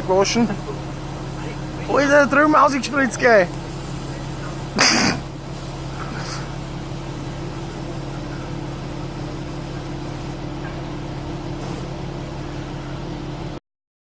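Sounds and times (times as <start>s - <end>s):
car wash machine hum: 0.0s - 13.6s
water spray hiss: 1.2s - 12.9s.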